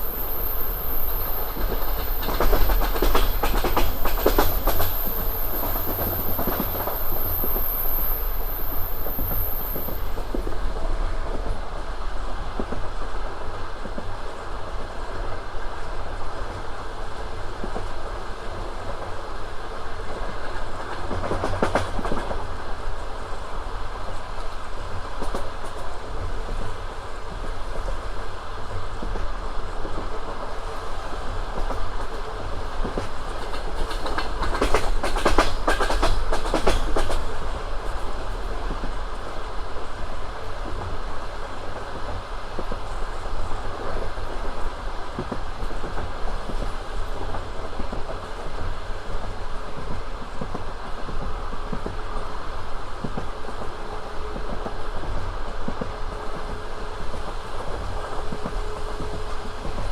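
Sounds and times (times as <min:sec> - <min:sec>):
train wheels clattering on rails: 0:00.0 - 0:11.7, 0:19.9 - 0:22.9, 0:24.0 - 0:59.9.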